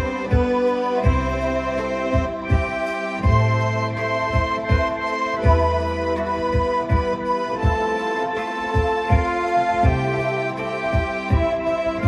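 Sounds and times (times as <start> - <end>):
electronic organ melody: 0.0 - 12.0
steady low beat: 0.0 - 12.0.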